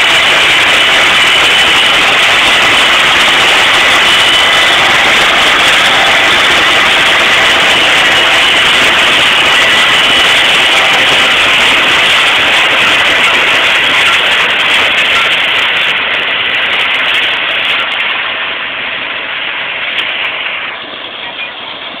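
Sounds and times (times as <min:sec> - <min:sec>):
tractor engines and corn picker: 0:00.0 - 0:22.0.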